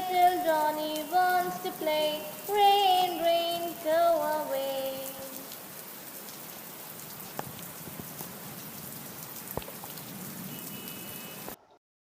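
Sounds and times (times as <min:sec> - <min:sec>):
steady rain falling: 0:00.0 - 0:11.6.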